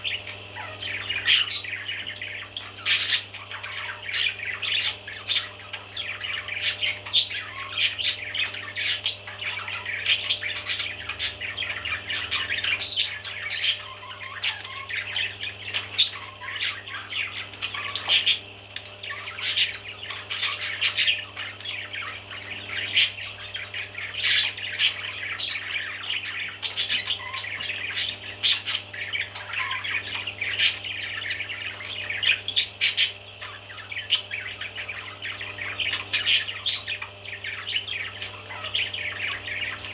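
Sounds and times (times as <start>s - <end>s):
baby parrots squawking: 0.0s - 39.9s
steady low hum: 0.0s - 39.9s.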